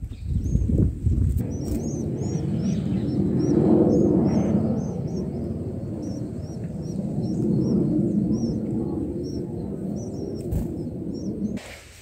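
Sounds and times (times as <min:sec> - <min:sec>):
steady low rumble: 0:00.0 - 0:12.0
nestlings chirping: 0:01.3 - 0:11.6.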